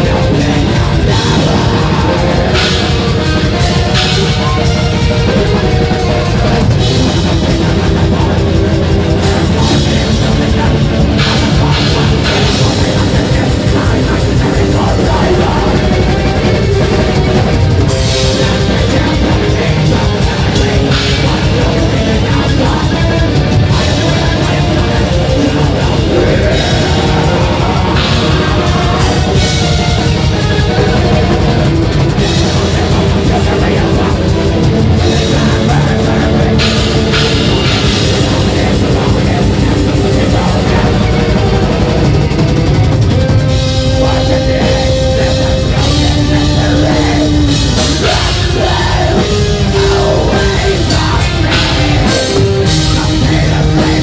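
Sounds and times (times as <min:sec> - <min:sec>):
distorted electric guitar: 0:00.0 - 0:54.0
drum kit: 0:00.0 - 0:54.0.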